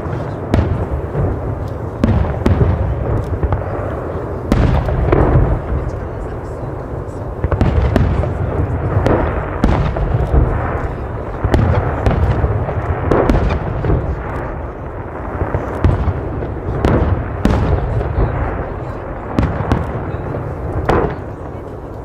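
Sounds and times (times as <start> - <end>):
fireworks bangs: 0.0 - 22.0
low rumble and crackle: 0.0 - 22.0.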